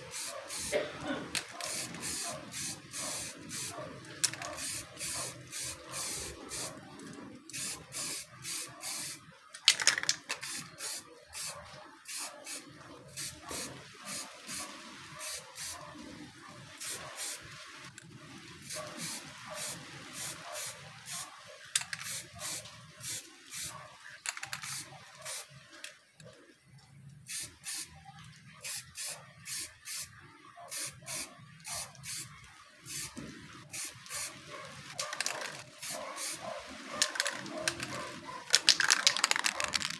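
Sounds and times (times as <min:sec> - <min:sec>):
spray paint can hissing: 0:00.0 - 0:06.8, 0:07.5 - 0:15.8, 0:16.8 - 0:17.5, 0:18.6 - 0:25.5, 0:27.3 - 0:27.9, 0:28.6 - 0:30.1, 0:30.7 - 0:34.4, 0:35.0 - 0:36.4, 0:37.0 - 0:39.9.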